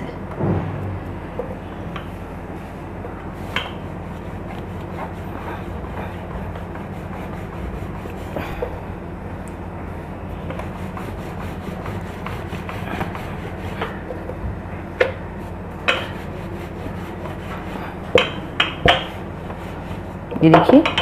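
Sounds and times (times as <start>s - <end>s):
rolling pin rubbing on dough: 2.0s - 9.0s, 10.0s - 14.6s, 15.2s - 20.8s.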